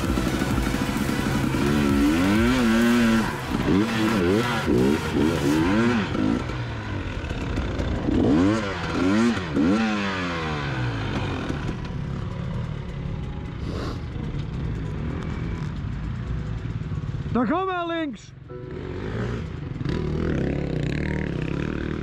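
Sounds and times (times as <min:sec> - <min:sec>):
two-stroke motorcycle engine revving: 0:00.0 - 0:17.5, 0:18.5 - 0:22.0.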